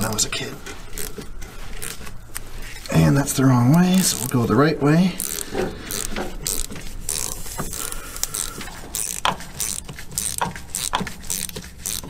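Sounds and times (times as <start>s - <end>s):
ratchet wrench clicking: 0.0s - 3.0s, 3.7s - 12.0s.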